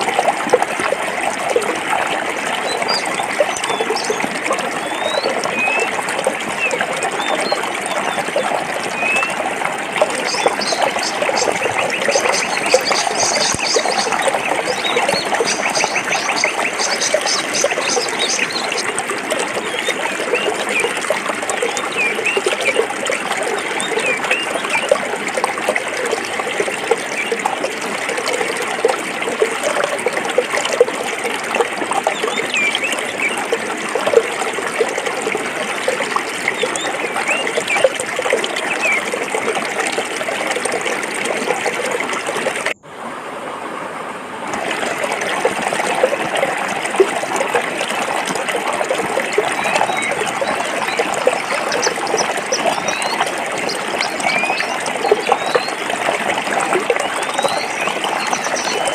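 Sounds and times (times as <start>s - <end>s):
water babbling over rocks: 0.0s - 58.9s.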